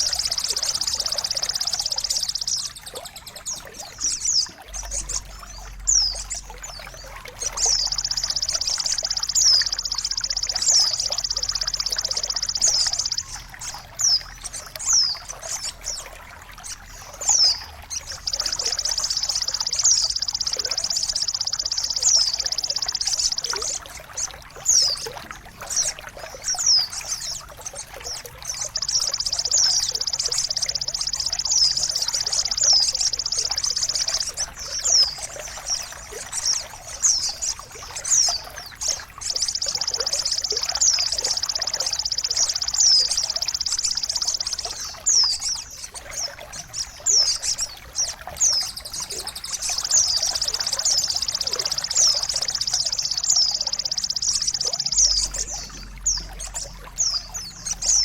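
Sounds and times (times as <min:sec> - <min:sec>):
high buzzy bird trill: 0:00.0 - 0:16.1, 0:16.7 - 0:58.0
small bird chirping: 0:00.0 - 0:58.0
trickling water: 0:00.0 - 0:58.0.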